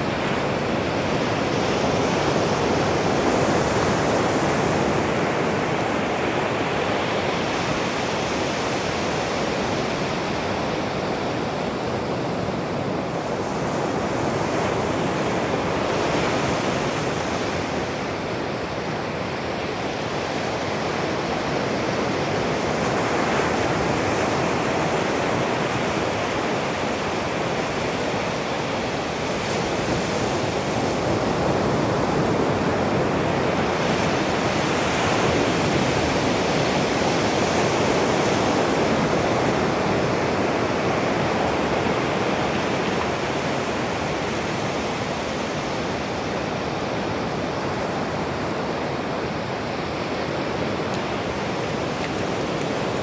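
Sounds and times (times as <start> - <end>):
ocean surf breaking on beach: 0.0 - 53.0.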